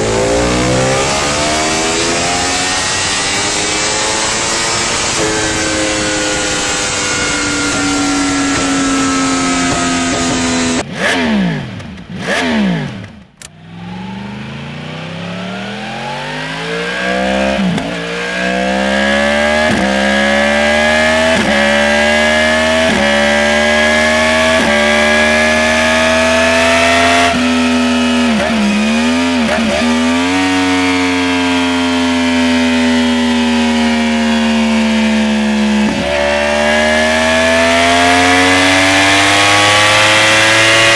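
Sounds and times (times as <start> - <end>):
sportbike engine revving: 0.0 - 40.9.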